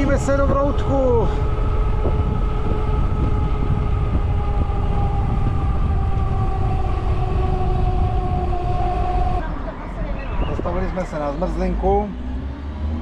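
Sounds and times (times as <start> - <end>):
bicycle whine: 0.0 - 12.6
wind rush on microphone: 0.0 - 13.0.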